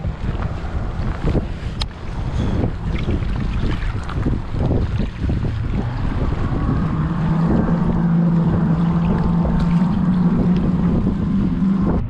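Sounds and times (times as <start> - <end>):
outboard motor running: 0.0 - 12.0
wind rumbling on microphone: 0.0 - 12.0.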